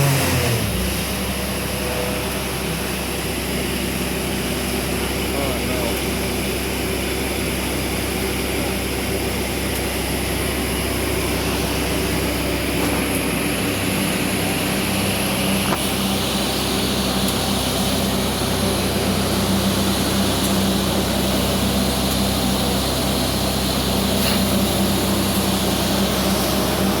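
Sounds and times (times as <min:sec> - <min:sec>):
drilling rig mechanical drone: 0:00.0 - 0:27.0.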